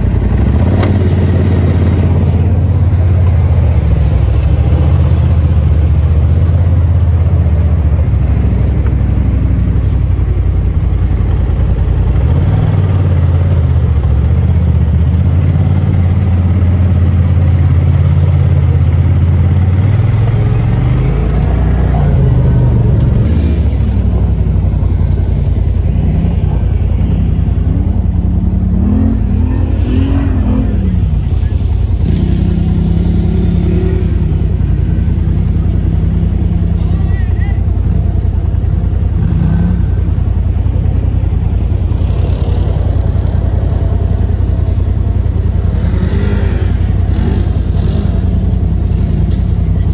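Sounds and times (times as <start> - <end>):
off-road engines revving: 0.0 - 49.9
utility vehicle engine running: 0.0 - 49.9.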